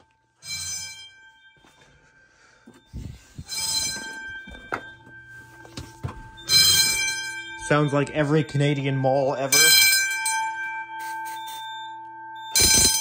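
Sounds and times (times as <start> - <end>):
fire alarm sounder blasts: 0.0 - 13.0.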